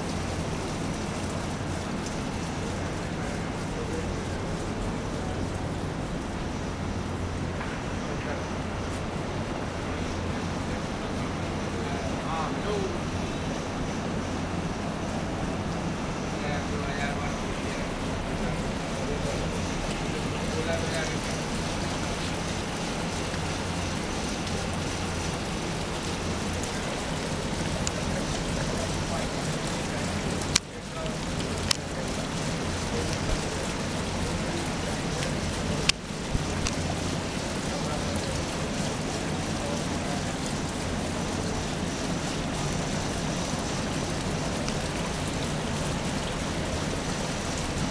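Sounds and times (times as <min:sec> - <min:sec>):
continuous rushing hiss: 0:00.0 - 0:47.9
running water: 0:00.0 - 0:47.9.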